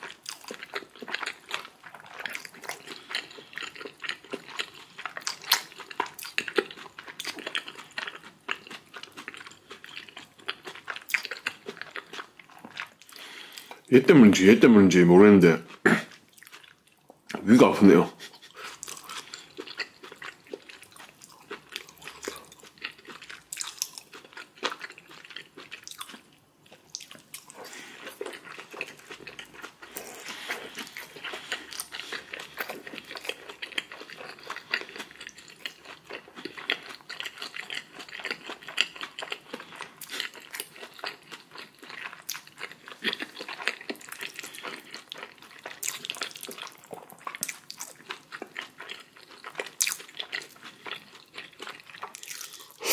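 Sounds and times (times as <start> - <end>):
biting and chewing food: 0.0 - 13.9, 15.0 - 17.6, 18.2 - 52.9.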